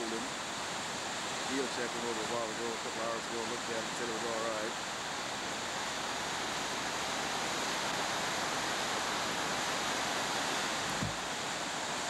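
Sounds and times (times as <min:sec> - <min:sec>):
turbulent water rushing: 0:00.0 - 0:12.0.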